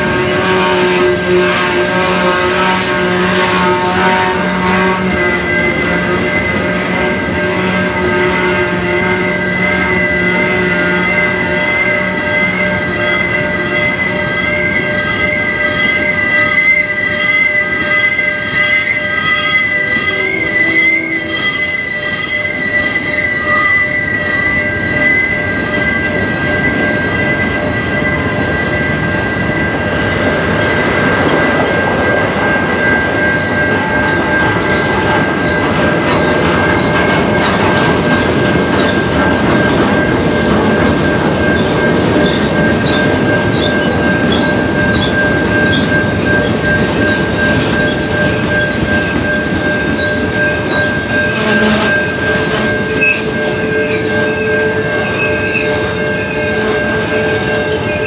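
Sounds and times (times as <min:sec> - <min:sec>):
rumble of rolling train cars: 0:00.0 - 0:58.0
train wheels squealing: 0:04.4 - 0:58.0.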